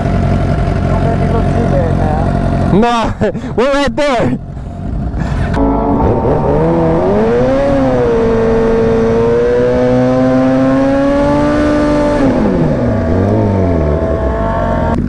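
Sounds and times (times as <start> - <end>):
motorcycle engine revving: 0.0 - 3.5, 4.3 - 15.0.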